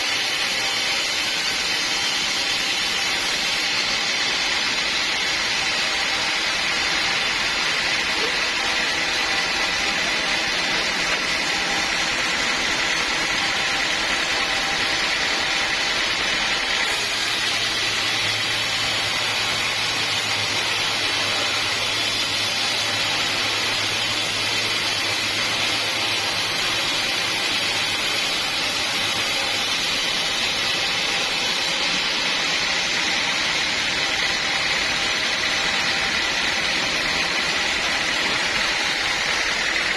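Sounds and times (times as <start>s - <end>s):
high machine whine: 0.0s - 39.9s
sawmill machinery drone: 0.0s - 39.9s.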